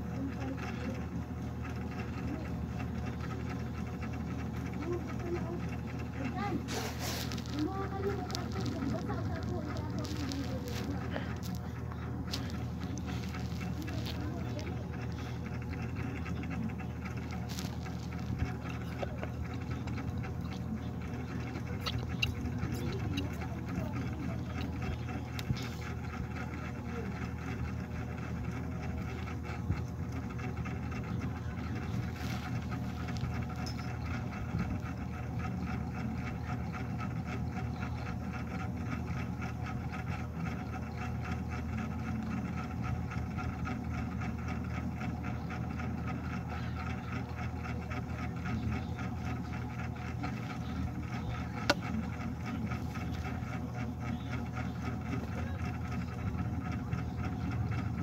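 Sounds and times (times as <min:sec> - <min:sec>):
motor hum: 0:00.0 - 0:58.0.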